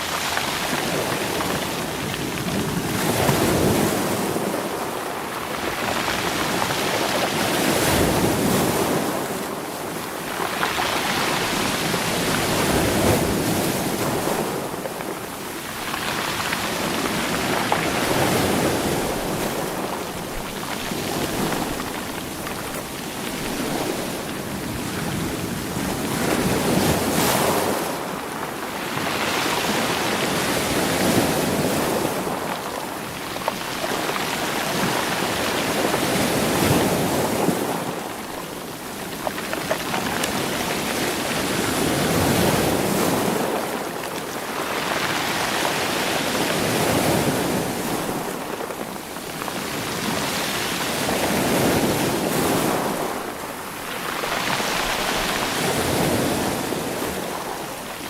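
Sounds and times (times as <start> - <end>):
sea waves surging against rocks: 0.0 - 58.0.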